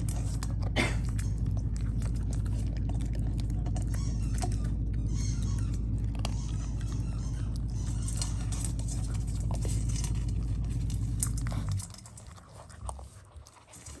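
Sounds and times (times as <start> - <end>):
low hum: 0.0 - 14.0
puppy crunching dry kibble: 0.0 - 14.0.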